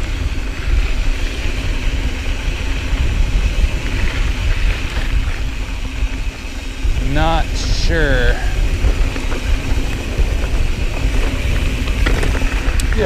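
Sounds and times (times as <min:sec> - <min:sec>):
bike rolling over dirt trail: 0:00.0 - 0:13.0
wind rumble on microphone: 0:00.0 - 0:13.0.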